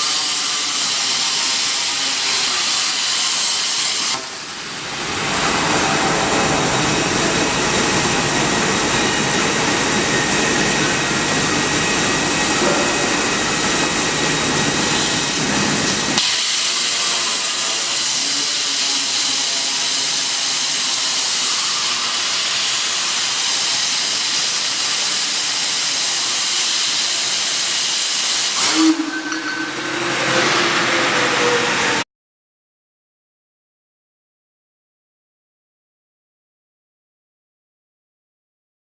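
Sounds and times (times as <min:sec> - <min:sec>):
plasma torch hissing: 0:00.0 - 0:32.0.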